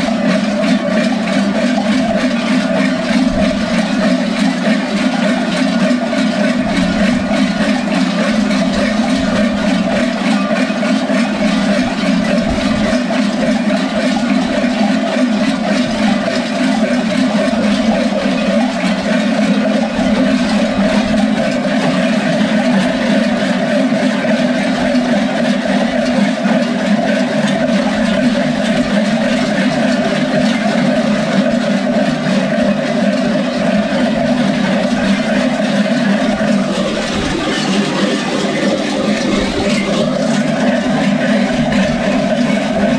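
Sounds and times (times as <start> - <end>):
large bells clanging: 0.0 - 42.9.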